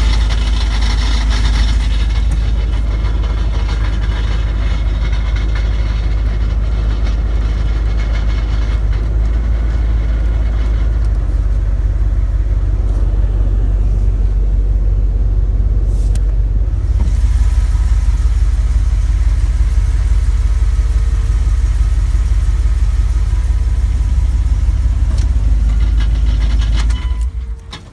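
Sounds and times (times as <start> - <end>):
engine running with knocking: 0.0 - 27.9.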